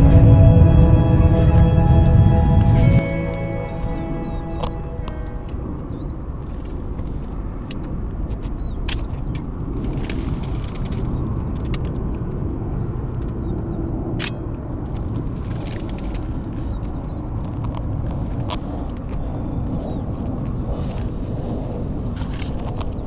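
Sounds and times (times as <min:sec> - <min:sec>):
low rumbling background noise: 0:00.0 - 0:23.0.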